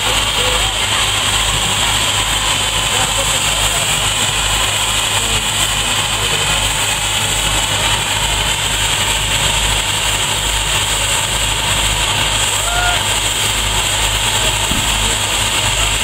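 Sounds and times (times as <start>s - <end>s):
low engine rumble: 0.0s - 16.0s
steam hissing: 0.0s - 16.0s.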